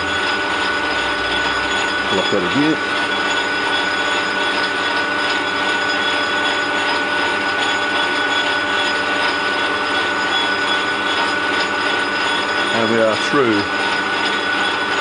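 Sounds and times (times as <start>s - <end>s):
drill boring through plastic: 0.0s - 15.0s
lathe whining: 0.0s - 15.0s.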